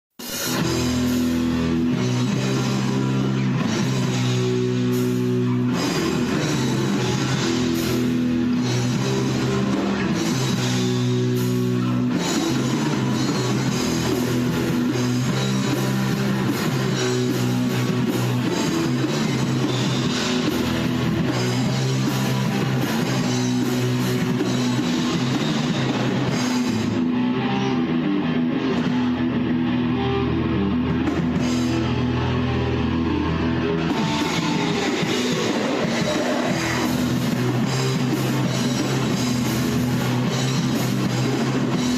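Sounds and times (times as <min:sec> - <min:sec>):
drum kit: 0:00.1 - 0:41.9
guitars: 0:00.2 - 0:41.9.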